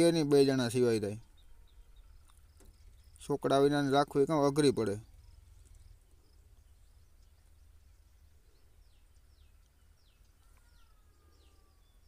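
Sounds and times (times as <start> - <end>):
distant bird chirping: 0.0 - 12.0
faint low background rumble: 0.0 - 12.0.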